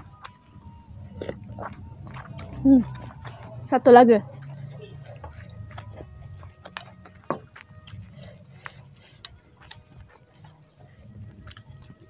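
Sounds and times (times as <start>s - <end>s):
quiet chewing: 0.0s - 12.0s.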